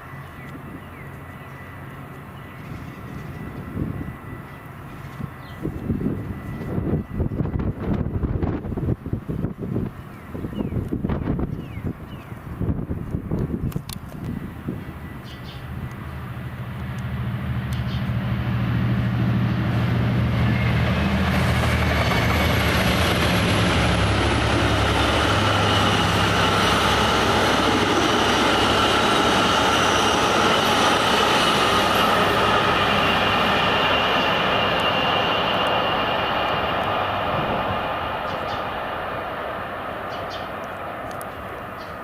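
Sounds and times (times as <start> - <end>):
diesel locomotive engine hum: 0.0 - 42.0
train wheels rushing on rails: 0.0 - 42.0.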